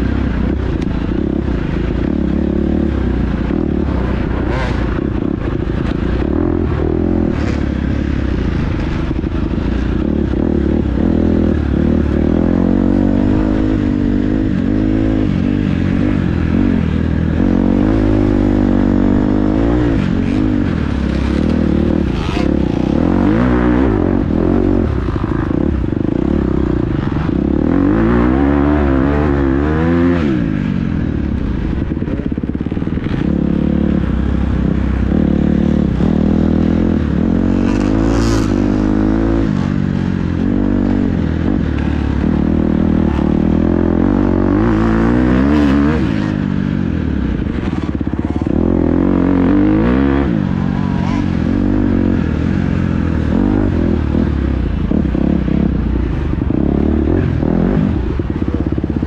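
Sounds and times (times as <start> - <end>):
dirt bike engine revving: 0.0 - 31.0, 31.6 - 59.0.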